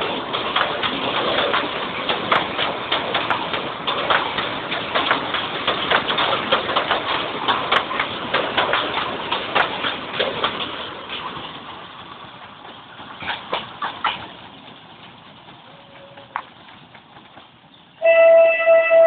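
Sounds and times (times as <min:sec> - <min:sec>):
train wheels clicking over rail joints: 0:00.0 - 0:18.0
train rumble: 0:00.0 - 0:19.0.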